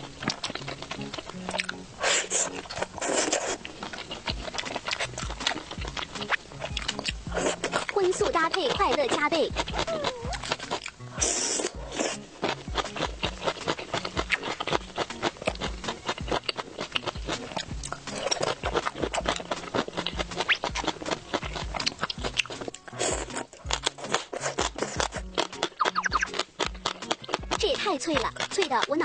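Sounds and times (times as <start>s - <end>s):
crunching and chewing vegetables: 0.0s - 29.0s.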